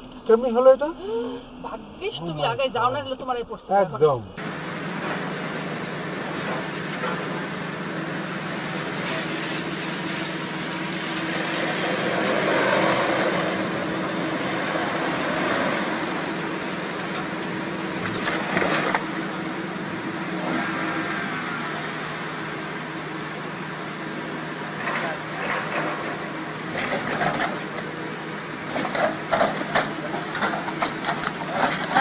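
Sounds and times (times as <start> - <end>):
vehicle and road noise: 0.0 - 32.0.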